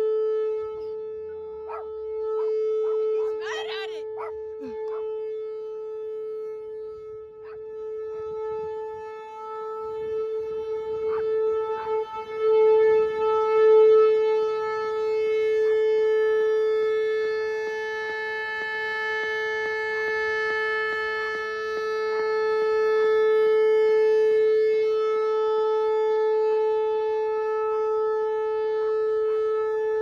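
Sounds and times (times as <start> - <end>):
warning siren low steady tone: 0.0 - 30.0.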